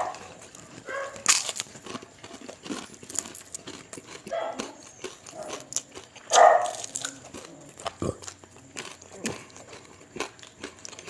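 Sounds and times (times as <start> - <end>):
chewing clicks and mouth smacks: 0.0 - 11.0.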